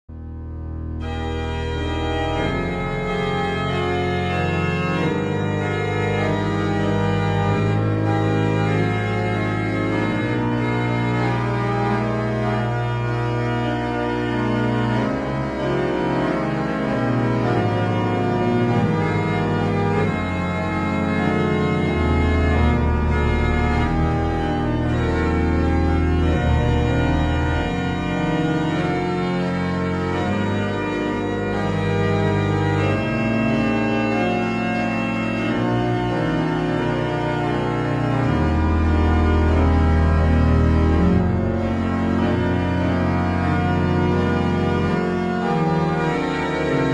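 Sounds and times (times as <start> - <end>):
slow organ chords: 0.1 - 46.9.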